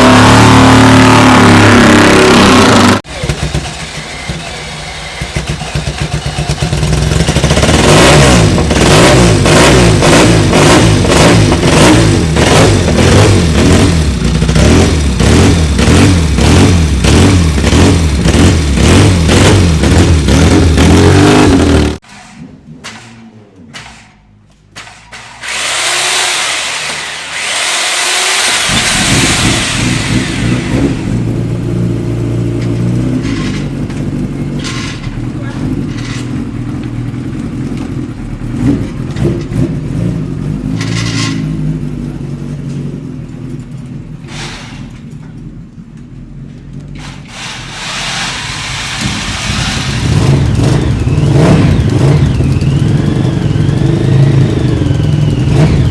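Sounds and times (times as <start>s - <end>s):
racing motorcycle engine revving: 0.0s - 22.0s, 25.5s - 44.9s, 46.8s - 55.9s.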